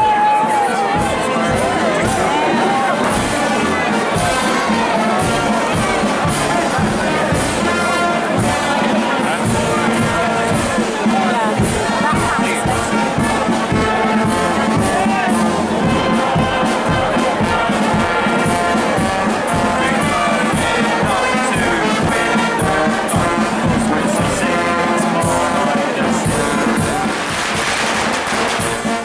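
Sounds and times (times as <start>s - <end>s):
brass band playing: 0.0s - 29.0s
crowd noise: 0.0s - 29.0s
drum strikes: 0.0s - 29.0s.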